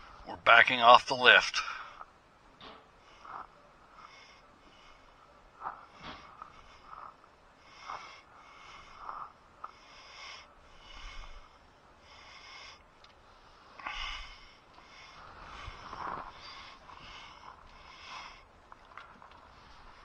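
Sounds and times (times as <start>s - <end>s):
man breathing through congested nose: 1.6s - 2.1s, 2.8s - 20.0s.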